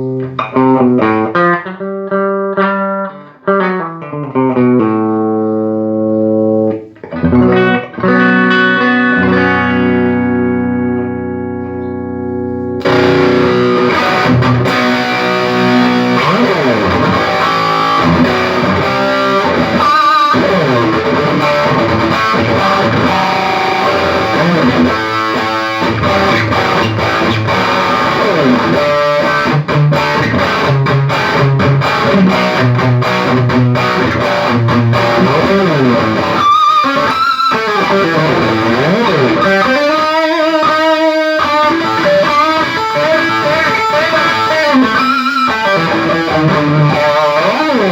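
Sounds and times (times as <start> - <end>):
distorted electric guitar: 0.0 - 47.9.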